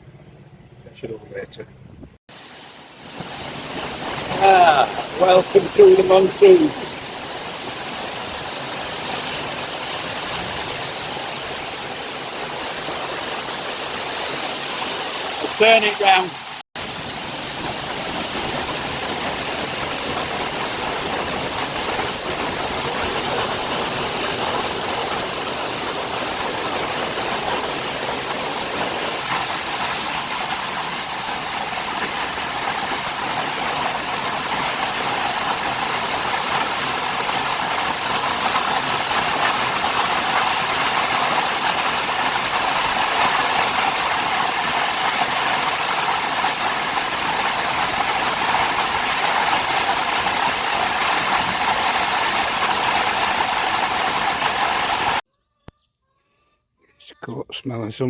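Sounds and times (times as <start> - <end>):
heavy rain pouring: 2.3 - 55.2.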